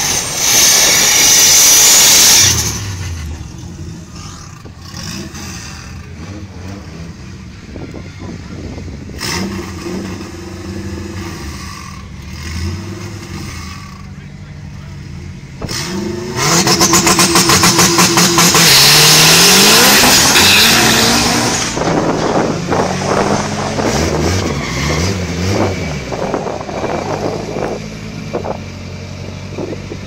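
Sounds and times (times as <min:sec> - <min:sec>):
car engines at full throttle: 0:00.0 - 0:30.0
engine upshifts: 0:00.0 - 0:30.0.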